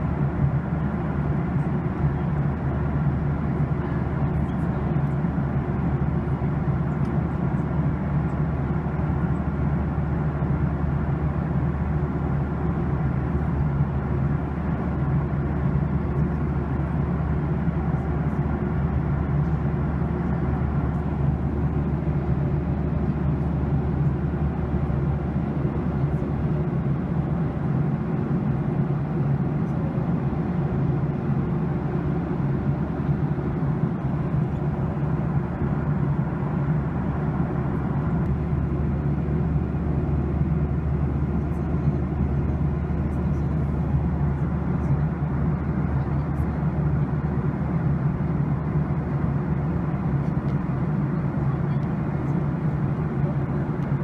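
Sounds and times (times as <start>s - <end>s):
constant low hum: 0.0s - 54.0s
jet cabin engine roar: 0.0s - 54.0s.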